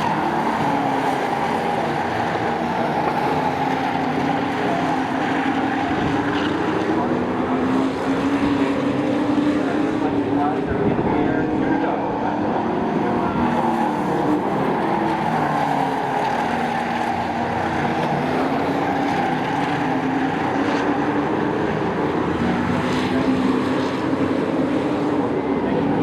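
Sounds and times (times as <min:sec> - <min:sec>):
race truck engines: 0:00.0 - 0:26.0.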